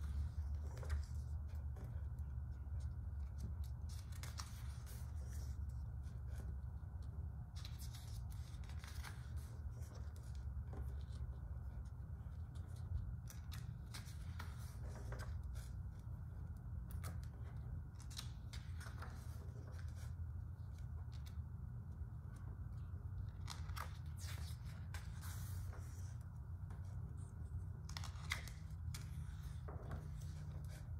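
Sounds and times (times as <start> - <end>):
pages rustling: 0.0 - 16.2, 22.2 - 30.9
steady low hum: 0.0 - 30.9.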